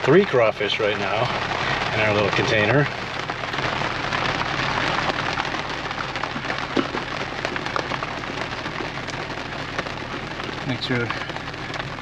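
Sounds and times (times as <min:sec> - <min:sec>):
rain drumming on a car roof: 0:00.0 - 0:12.0.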